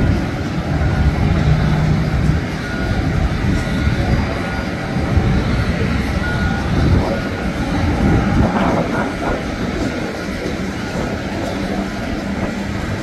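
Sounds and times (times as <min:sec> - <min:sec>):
jet engines low rumble: 0:00.0 - 0:13.0.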